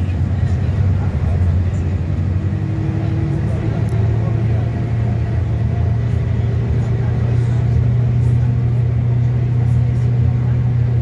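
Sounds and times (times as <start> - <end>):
bus diesel engine droning: 0.0 - 11.0
road noise: 0.0 - 11.0.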